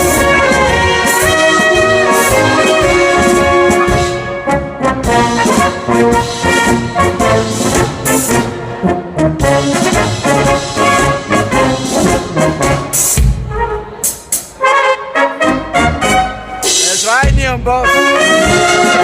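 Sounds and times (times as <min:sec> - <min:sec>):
brass band playing a polka: 0:00.0 - 0:19.0.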